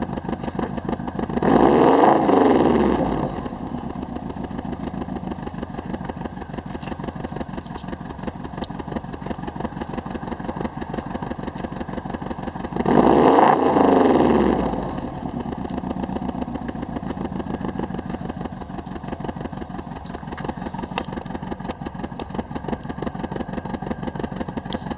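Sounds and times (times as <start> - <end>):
car engine idling with misfire: 0.0 - 24.9
engine revving: 0.0 - 24.9.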